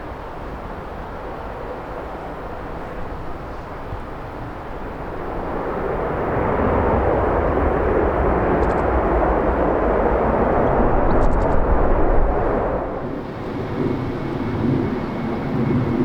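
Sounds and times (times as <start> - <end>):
jet airliner engine: 0.0 - 16.0
wind rumble on microphone: 0.0 - 16.0.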